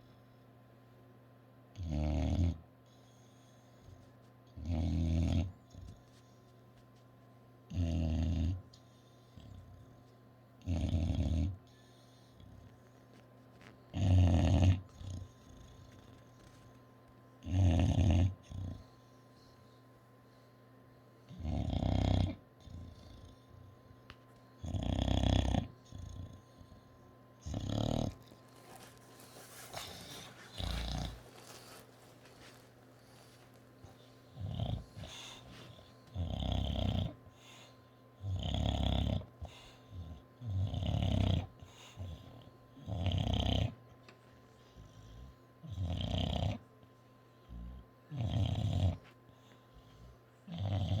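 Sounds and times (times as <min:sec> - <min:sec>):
dog snoring: 0:01.7 - 0:06.2, 0:07.7 - 0:10.0, 0:10.6 - 0:16.8, 0:17.4 - 0:19.0, 0:21.3 - 0:23.8, 0:24.6 - 0:43.9, 0:44.7 - 0:46.6, 0:47.4 - 0:51.0.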